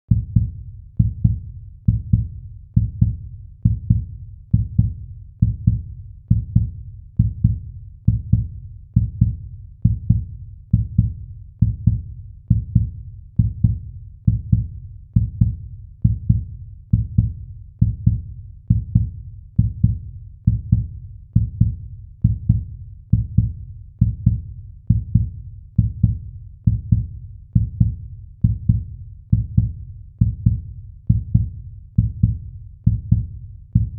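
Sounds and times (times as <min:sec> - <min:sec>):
heartbeat double thumps: 0:00.1 - 0:33.9.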